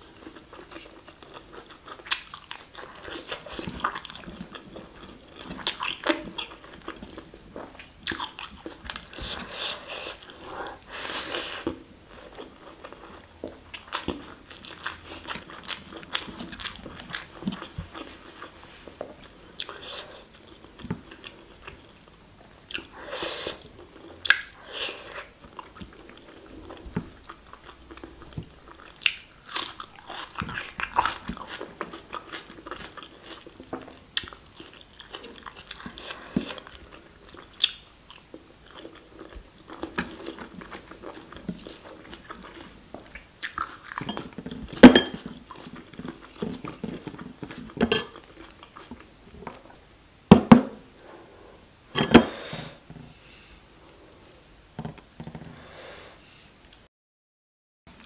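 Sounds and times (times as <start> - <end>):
person chewing food: 0.0 - 49.8.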